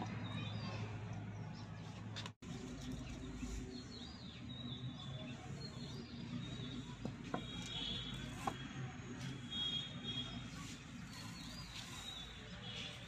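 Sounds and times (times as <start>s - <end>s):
small birds chirping: 0.0s - 8.6s, 9.2s - 13.0s.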